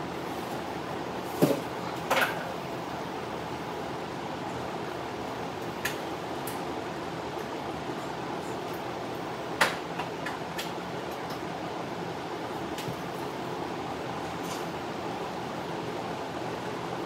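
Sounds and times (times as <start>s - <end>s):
drum fan whirring: 0.0s - 17.0s.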